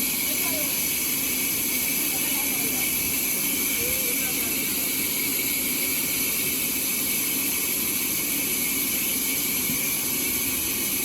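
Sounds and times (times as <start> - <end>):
sawmill saw running: 0.0 - 11.0.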